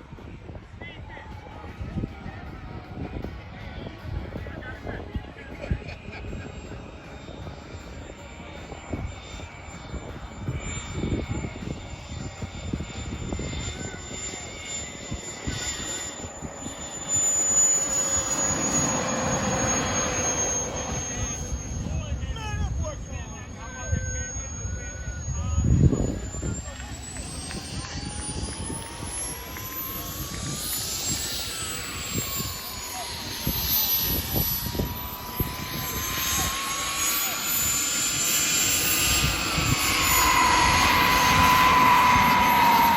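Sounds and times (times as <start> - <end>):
jet turbine whine: 0.0 - 42.9
rushing exhaust noise: 0.0 - 42.9.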